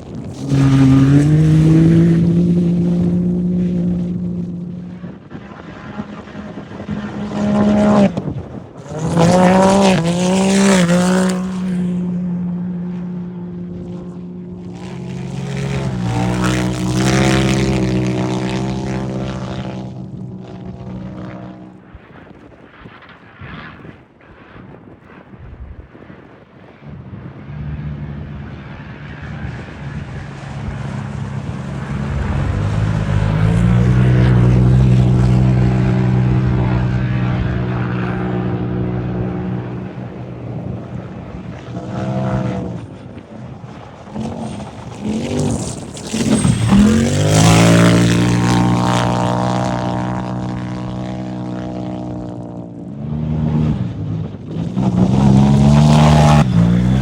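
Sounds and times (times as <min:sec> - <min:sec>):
racing vehicle engines passing: 0:00.0 - 0:21.9, 0:26.8 - 0:57.0.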